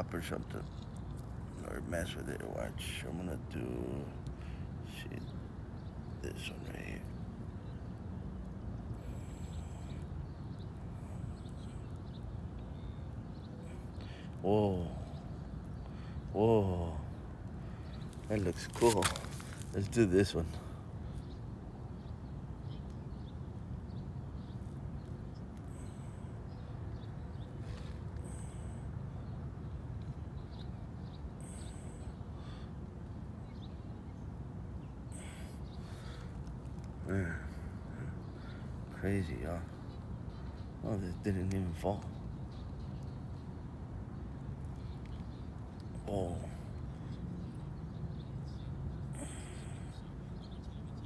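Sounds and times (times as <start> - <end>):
faint bird chirps: 0.0 - 51.0.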